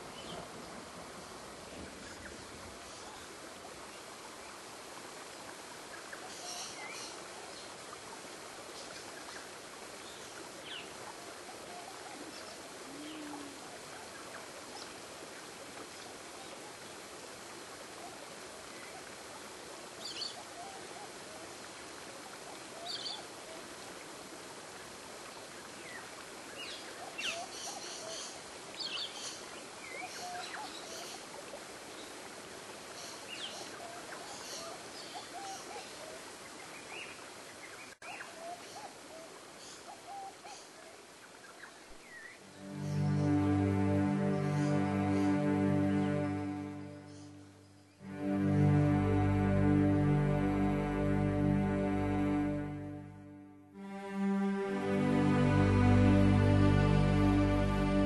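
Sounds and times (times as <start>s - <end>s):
running water: 0.0s - 53.1s, 53.7s - 58.0s.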